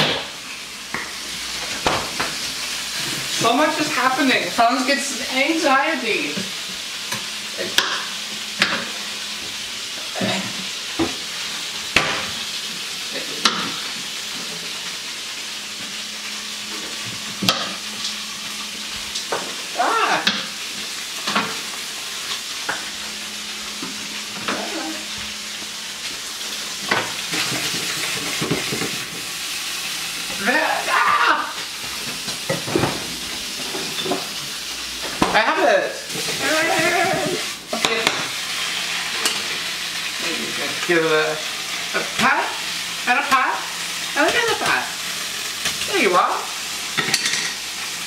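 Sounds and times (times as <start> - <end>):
tofu sizzling in oil: 0.0 - 48.0.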